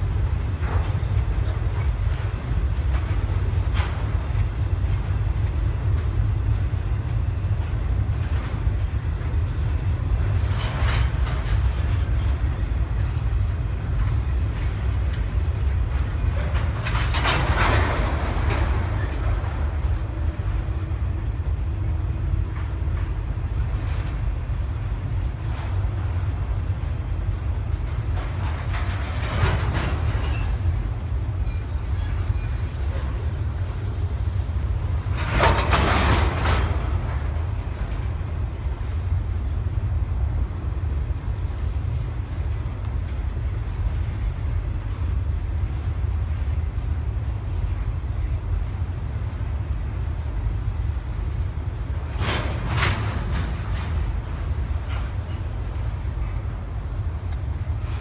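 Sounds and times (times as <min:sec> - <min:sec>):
freight train rumbling past: 0:00.0 - 0:58.0
train wheel clatter: 0:00.0 - 0:58.0.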